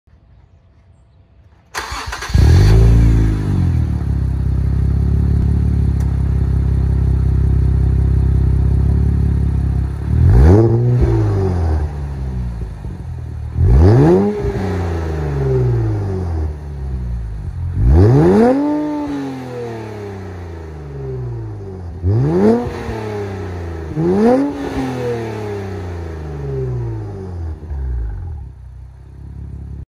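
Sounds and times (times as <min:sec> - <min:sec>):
car engine starting and idling: 0:01.5 - 0:29.8
engine throttle blips: 0:01.7 - 0:28.5.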